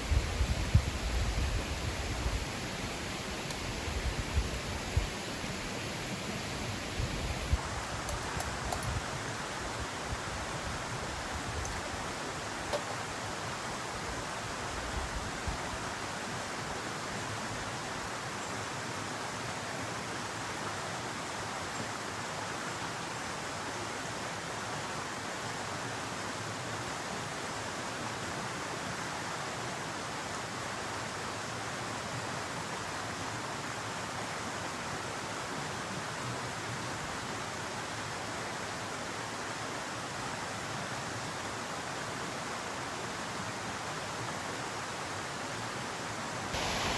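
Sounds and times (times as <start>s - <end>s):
stream water running: 0.0s - 46.9s.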